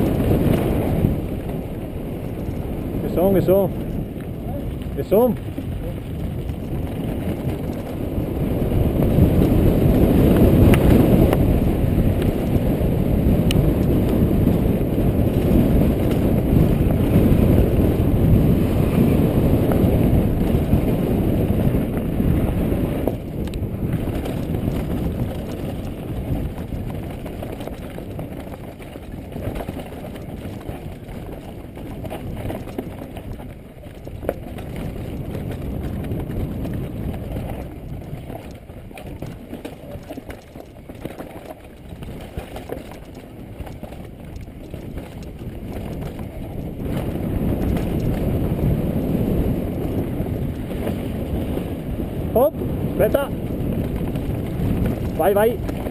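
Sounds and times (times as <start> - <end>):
bike tyres roaring on rough trail: 0.0 - 55.9
wind rushing over microphone: 0.0 - 55.9.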